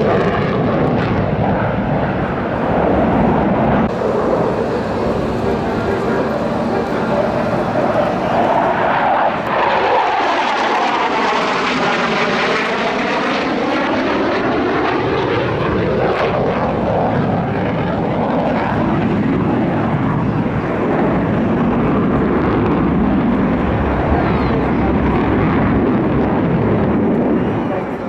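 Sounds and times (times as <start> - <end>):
jet engines in afterburner: 0.0 - 28.0.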